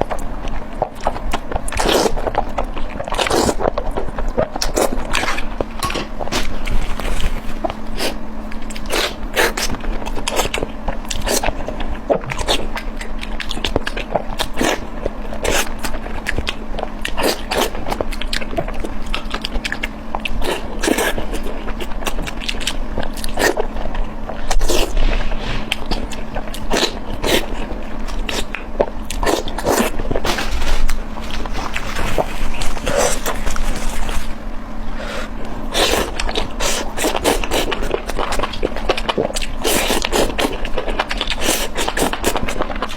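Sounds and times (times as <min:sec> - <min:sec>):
faint steady hum: 0:00.0 - 0:42.9
person chewing crunchy food: 0:00.0 - 0:42.9.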